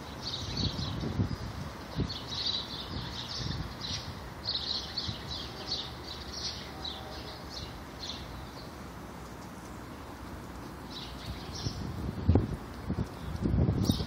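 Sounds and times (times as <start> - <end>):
wind rumble: 0.0 - 5.5, 7.8 - 14.0.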